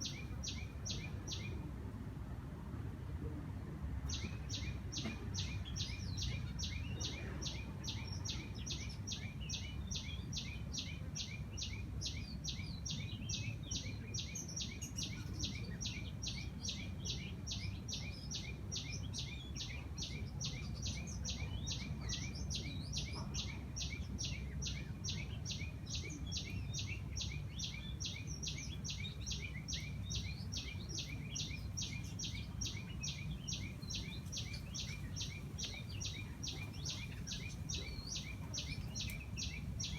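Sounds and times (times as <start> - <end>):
birds chirping: 0.0 - 1.6, 4.1 - 39.9
distant city rumble: 0.0 - 39.9.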